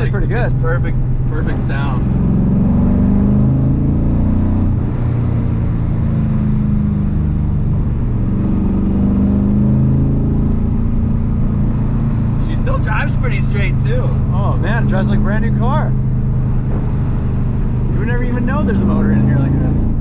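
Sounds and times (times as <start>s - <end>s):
car engine exhaust drone: 0.0s - 20.0s.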